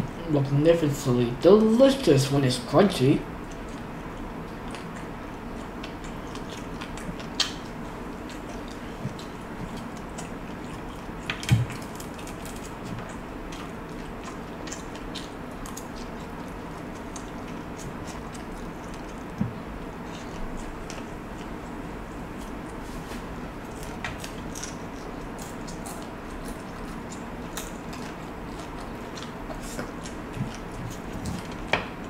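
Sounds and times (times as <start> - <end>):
chewing crispy food: 3.0 - 32.0.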